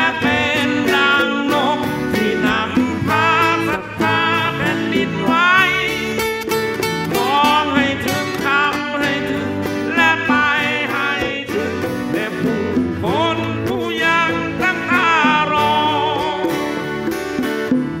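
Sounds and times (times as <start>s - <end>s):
acoustic guitars strummed: 0.0s - 18.0s.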